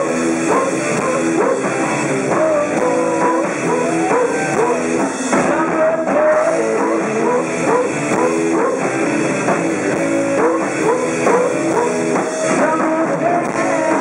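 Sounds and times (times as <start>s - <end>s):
electric guitar: 0.0s - 14.0s
live rock band playing: 0.0s - 14.0s.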